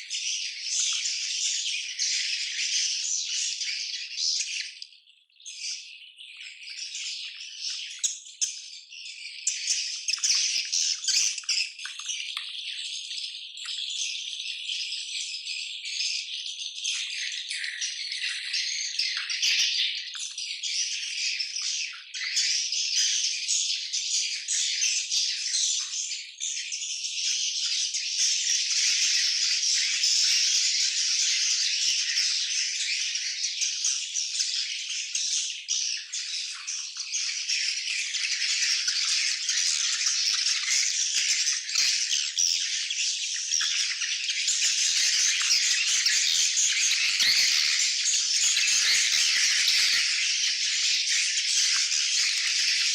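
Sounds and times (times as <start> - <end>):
birds chirping and clicking: 0.0 - 52.9.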